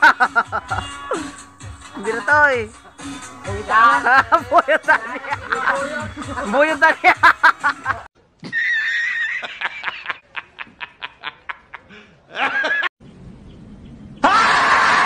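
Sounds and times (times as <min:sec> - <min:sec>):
man laughing hard: 0:00.0 - 0:03.0, 0:03.8 - 0:12.9, 0:14.2 - 0:15.0.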